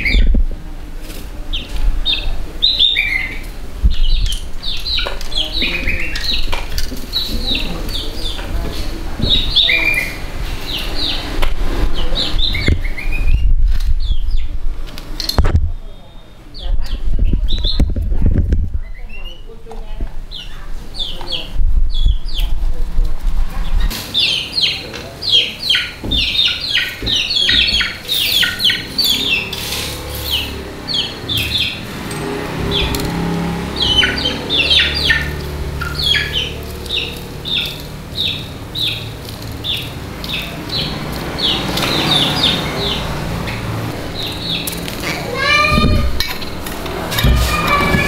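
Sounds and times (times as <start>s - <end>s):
birds chirping: 0.0s - 22.8s, 23.5s - 48.0s.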